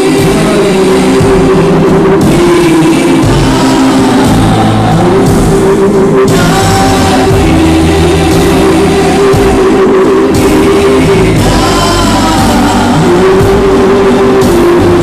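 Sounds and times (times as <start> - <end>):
live worship band music: 0.0 - 15.0.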